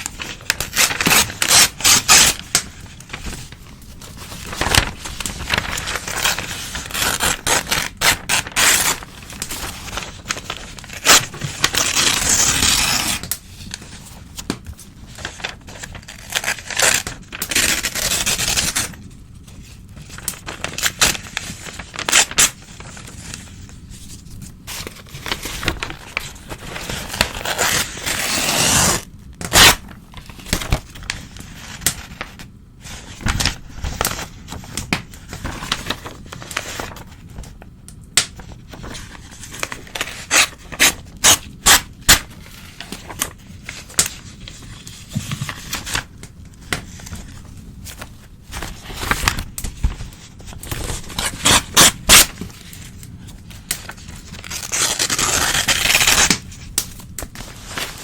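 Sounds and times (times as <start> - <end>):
newspaper tearing: 0.0 - 19.0, 20.1 - 23.5, 24.7 - 37.2, 38.4 - 46.1, 46.7 - 58.0
paper rustling: 0.0 - 37.6, 38.3 - 58.0.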